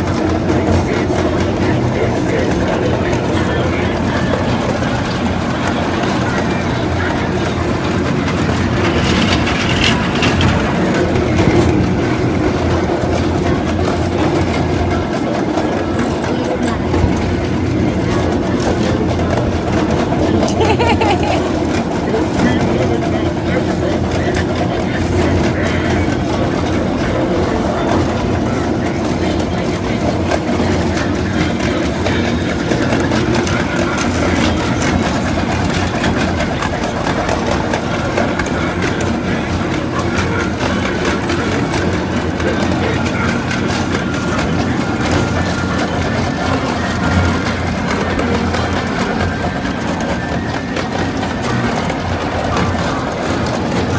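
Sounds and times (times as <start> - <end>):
train rumbling: 0.0 - 53.9
wheels clacking over rails: 0.0 - 53.9.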